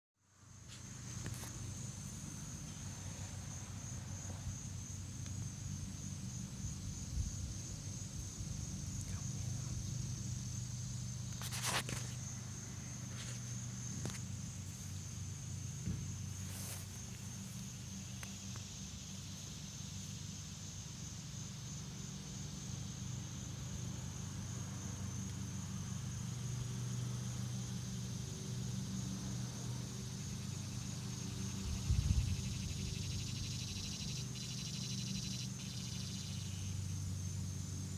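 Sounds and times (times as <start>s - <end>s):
insects trilling: 0.3s - 37.9s.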